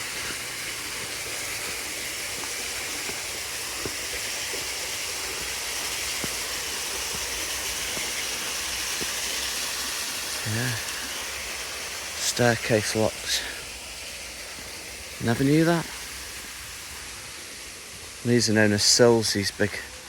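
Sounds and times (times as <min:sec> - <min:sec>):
water rushing at a lock: 0:00.0 - 0:20.0.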